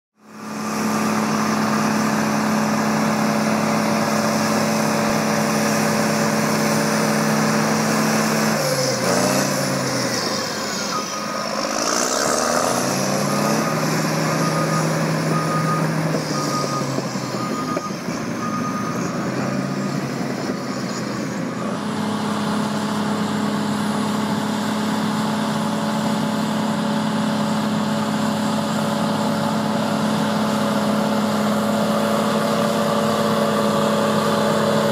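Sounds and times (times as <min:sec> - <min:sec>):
bulldozer diesel engine running: 0:00.2 - 0:34.9.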